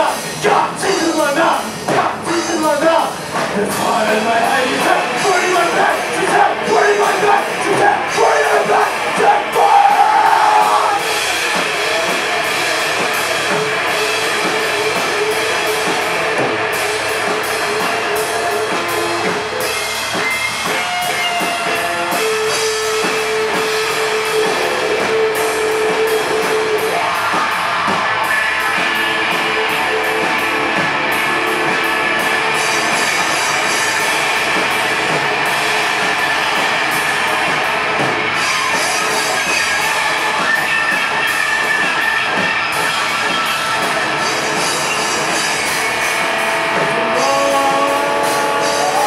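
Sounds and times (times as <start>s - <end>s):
bass guitar: 0.0s - 49.0s
drum kit with cymbals: 0.0s - 49.0s
electric guitar: 0.0s - 49.0s.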